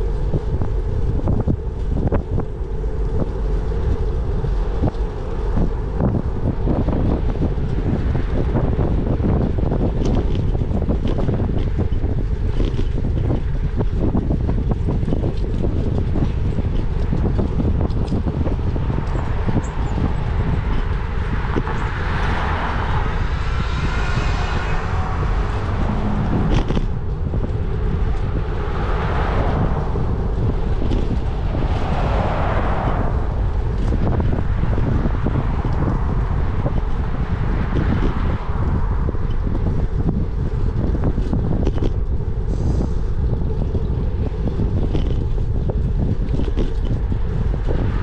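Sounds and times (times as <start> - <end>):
road traffic passing: 0.0 - 48.0
wind buffeting microphone: 0.0 - 48.0.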